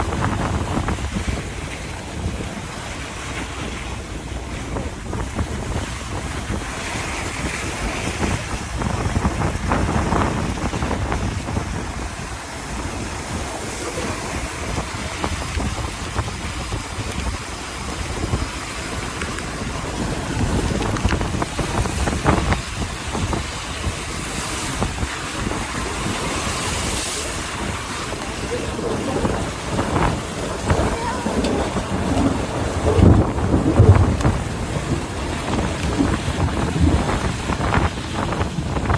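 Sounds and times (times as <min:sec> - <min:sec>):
steady rushing noise: 0:00.0 - 0:38.9
wind buffeting microphone: 0:00.0 - 0:38.9.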